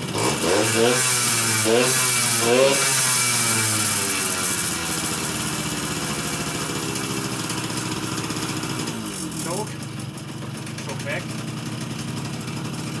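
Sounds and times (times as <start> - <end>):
two-stroke engine idling: 0.0 - 13.0.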